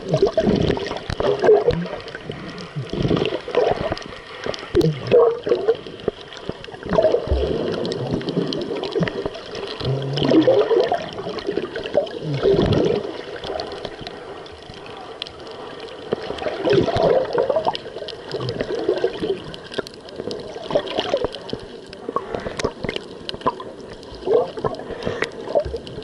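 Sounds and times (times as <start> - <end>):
muffled underwater sloshing: 0.0 - 26.0.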